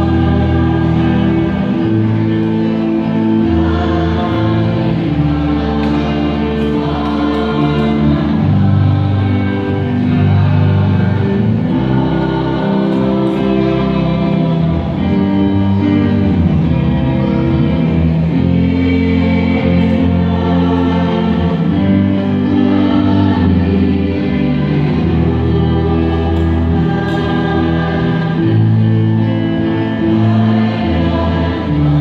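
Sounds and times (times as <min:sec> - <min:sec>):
church choir singing a hymn: 0:00.0 - 0:32.0.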